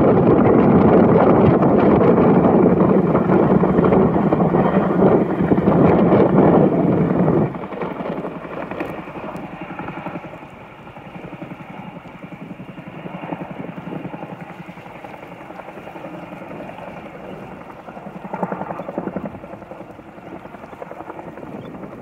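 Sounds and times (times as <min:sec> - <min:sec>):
helicopter rotor chopping: 0:00.0 - 0:22.0.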